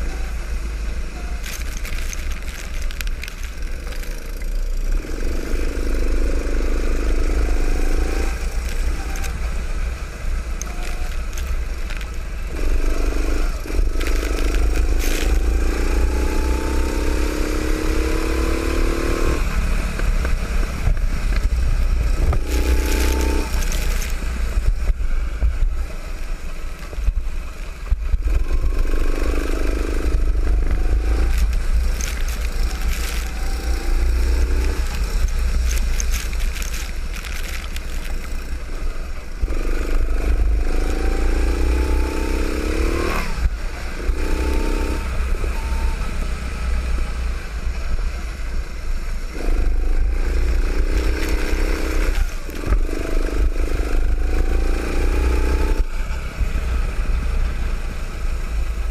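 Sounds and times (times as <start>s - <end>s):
go-kart engine revving: 0.0s - 24.9s, 28.1s - 47.3s, 49.0s - 58.9s.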